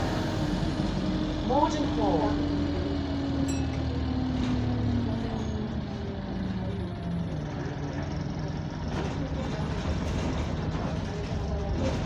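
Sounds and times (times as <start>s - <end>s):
bus diesel engine: 0.0s - 12.0s.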